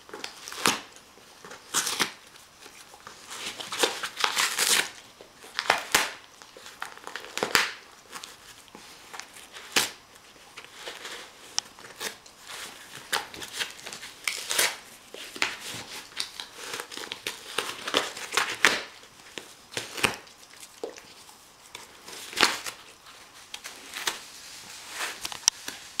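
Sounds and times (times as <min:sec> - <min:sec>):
dog tearing cardboard and paper: 0:00.1 - 0:10.0, 0:10.6 - 0:21.0, 0:21.7 - 0:25.9.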